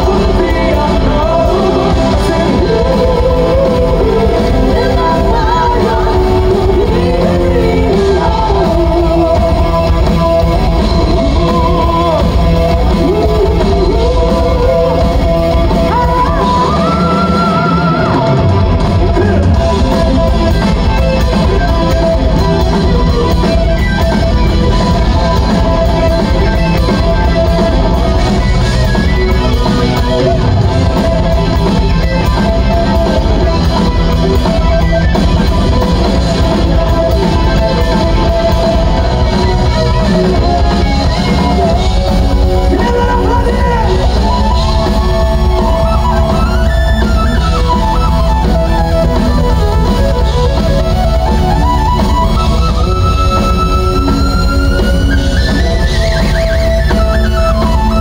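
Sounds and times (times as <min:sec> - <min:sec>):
person singing: 0:00.0 - 0:46.8
live hard rock band playing: 0:00.0 - 0:58.0.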